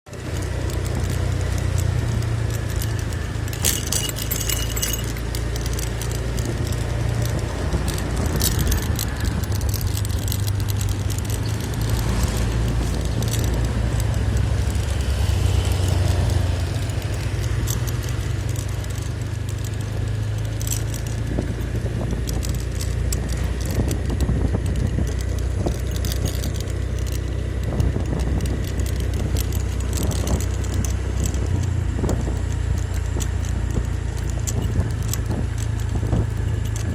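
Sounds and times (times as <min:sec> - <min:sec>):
vehicle rumbling on rough road: 0:00.0 - 0:36.9
light rattling and clinking: 0:00.1 - 0:36.9.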